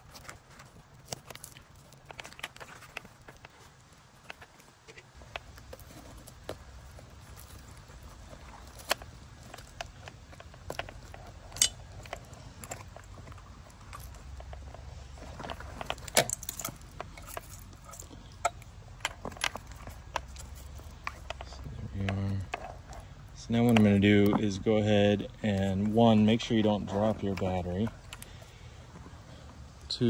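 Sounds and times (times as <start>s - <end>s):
low steady rumble: 0.0s - 30.0s.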